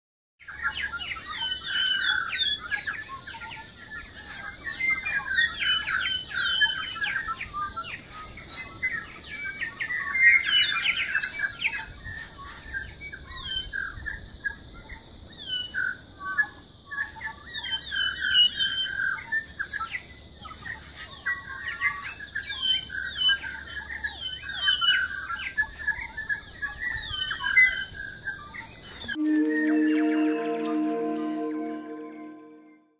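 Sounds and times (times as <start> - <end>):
chorus of birds singing: 0.4 - 32.6.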